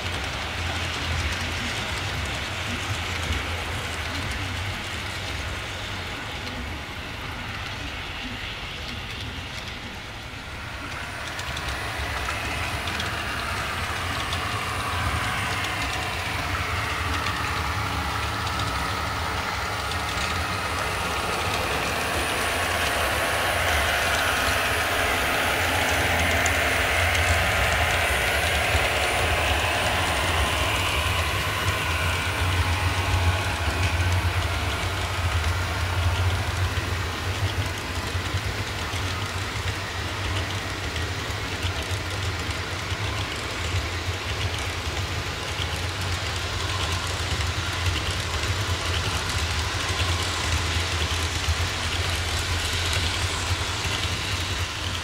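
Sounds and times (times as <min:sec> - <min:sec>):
model trains rolling on track: 0:00.0 - 0:55.0
steady low hum: 0:00.7 - 0:44.4, 0:46.0 - 0:55.0.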